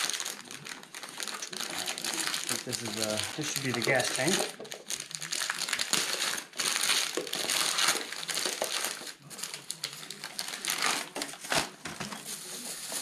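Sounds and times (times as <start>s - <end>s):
paper and plastic wrap crinkling: 0.0s - 13.0s.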